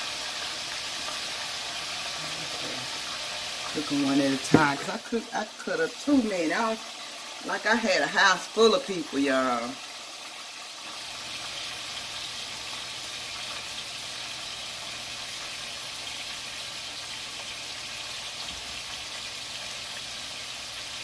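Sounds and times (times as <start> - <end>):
potatoes sizzling in hot oil: 0.0 - 21.0.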